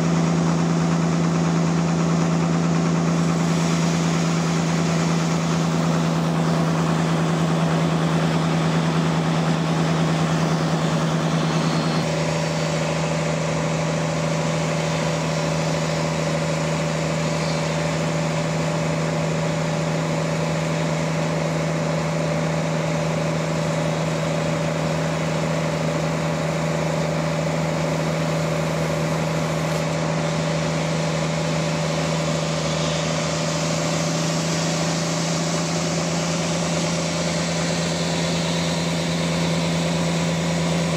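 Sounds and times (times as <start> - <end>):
sawmill engine hum: 0.0 - 40.9.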